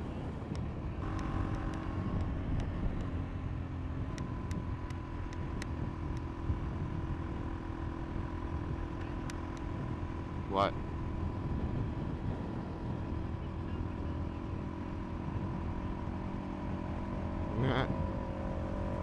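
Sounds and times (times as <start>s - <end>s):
low wind: 0.0s - 19.0s
motorcycle engine cruising: 0.0s - 19.0s
road rumble: 0.0s - 19.0s.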